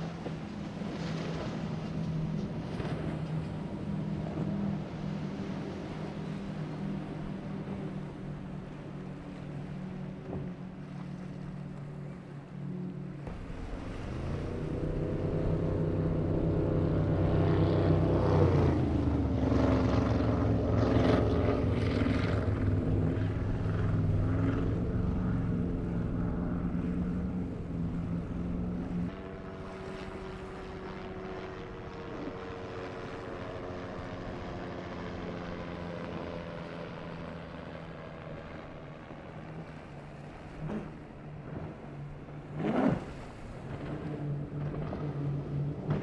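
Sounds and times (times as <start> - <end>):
outboard motors droning: 0.0 - 46.0
powerboat engines running hard: 0.0 - 46.0.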